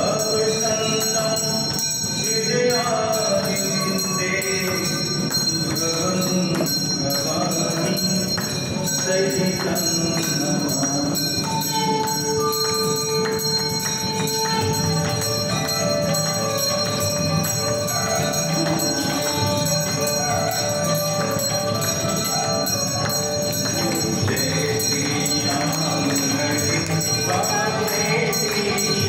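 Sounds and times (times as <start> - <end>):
bells ringing: 0.0 - 29.0
devotional music: 0.0 - 29.0.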